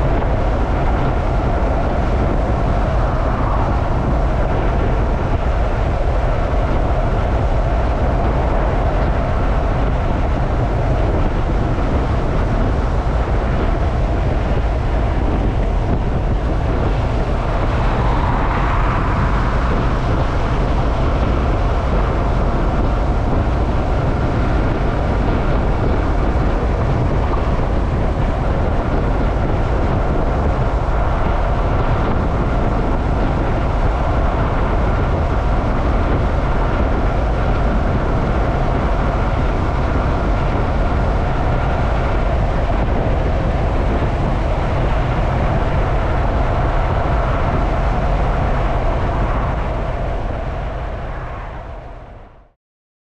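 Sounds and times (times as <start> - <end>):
motorcycle engine and tyre drone: 0.0 - 52.5
wind rushing over camera: 0.0 - 52.6.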